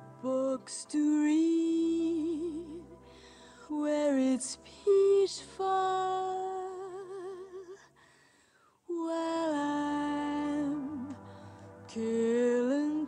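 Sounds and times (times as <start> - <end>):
person singing with vibrato: 0.0 - 8.0, 8.8 - 13.0.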